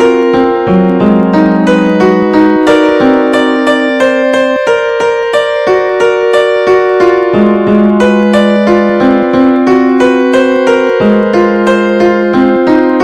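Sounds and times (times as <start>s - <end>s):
piano-tone melody: 0.0s - 13.0s.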